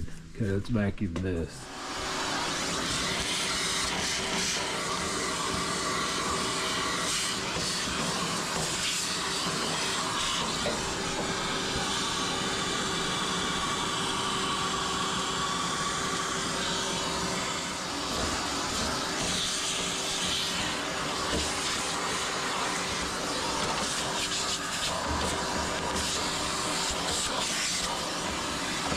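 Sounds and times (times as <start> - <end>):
vacuum cleaner running: 1.6 - 28.9.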